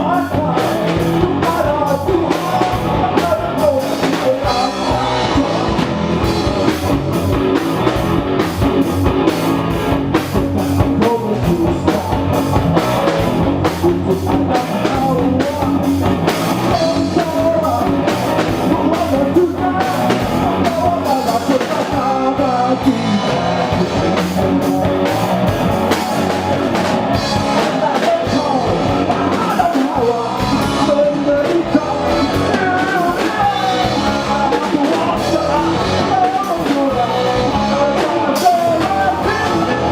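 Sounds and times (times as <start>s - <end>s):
person singing: 0.0s - 7.9s, 10.3s - 39.9s
drum kit: 0.0s - 39.9s
guitar: 0.0s - 39.9s.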